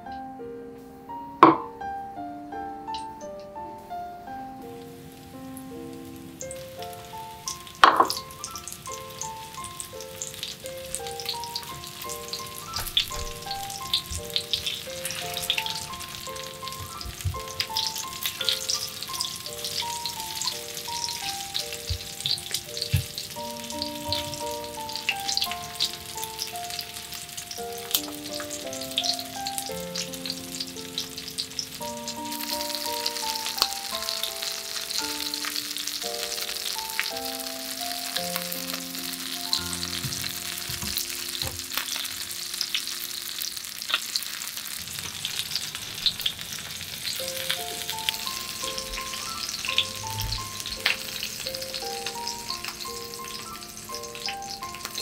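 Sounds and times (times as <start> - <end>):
gentle piano music: 0.0 - 55.0
fish sizzling in frying pan: 4.5 - 55.0.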